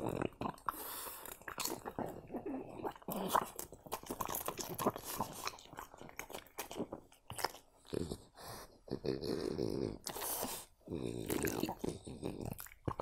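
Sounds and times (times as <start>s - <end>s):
dog crunching food: 0.0s - 8.2s, 10.0s - 13.0s.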